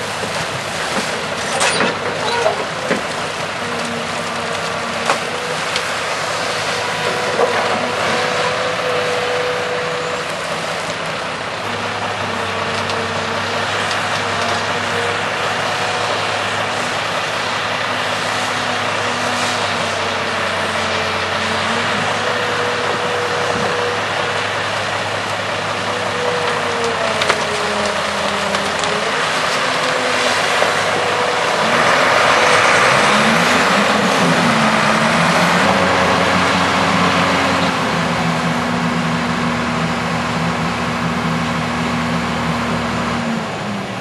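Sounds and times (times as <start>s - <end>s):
diesel engines running: 0.0s - 44.0s.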